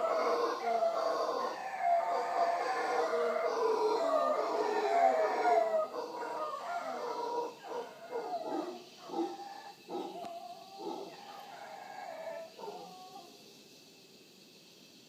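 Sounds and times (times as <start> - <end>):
howler monkeys howling: 0.0 - 13.5.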